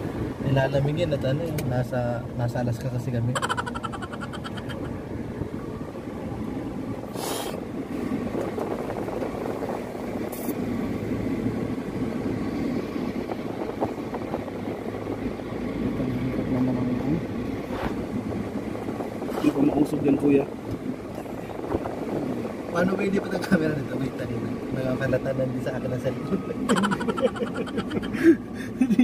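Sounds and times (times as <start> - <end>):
road and engine noise in van: 0.0 - 29.0.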